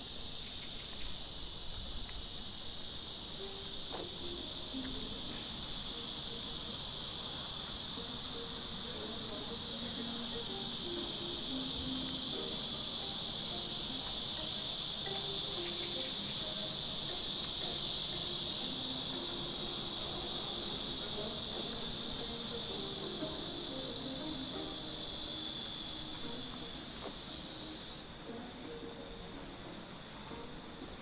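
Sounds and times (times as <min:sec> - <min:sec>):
insects shrilling: 0:00.0 - 0:31.0.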